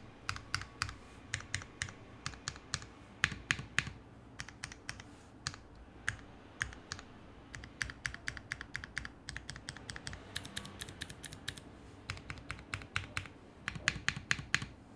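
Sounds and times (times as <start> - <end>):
mechanical keyboard typing: 0.3 - 14.8.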